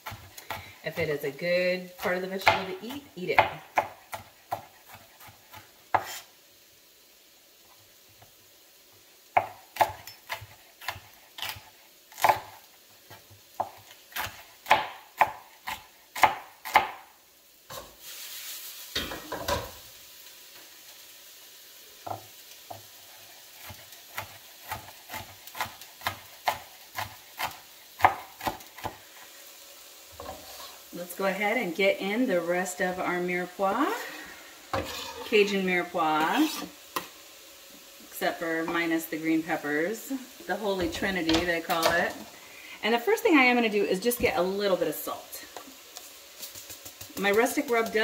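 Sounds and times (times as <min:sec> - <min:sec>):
onions sizzling in skillet: 0:00.0 - 0:48.0.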